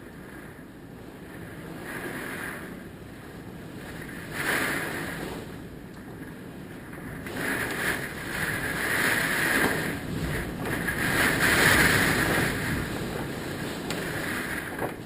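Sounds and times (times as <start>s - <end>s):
hurricane wind gusting: 0.0s - 15.0s
wind buffeting microphone: 0.0s - 15.0s.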